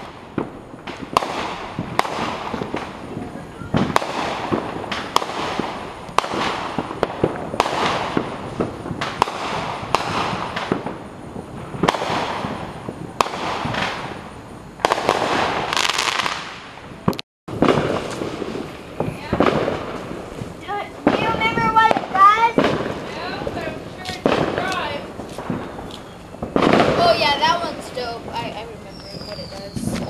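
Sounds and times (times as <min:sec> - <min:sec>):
fireworks hissing and crackling: 0:00.0 - 0:30.0
fireworks pops and bangs: 0:00.0 - 0:30.0.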